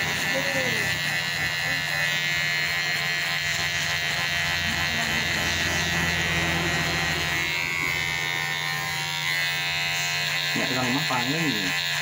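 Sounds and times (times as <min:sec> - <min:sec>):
electric hair clipper humming: 0:00.0 - 0:12.0.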